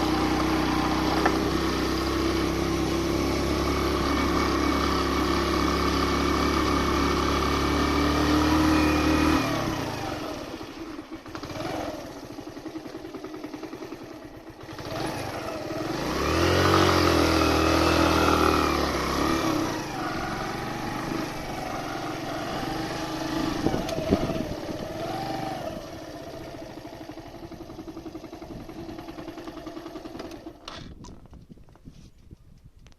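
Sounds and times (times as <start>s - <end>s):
motorcycle engine revving: 0.0s - 31.4s.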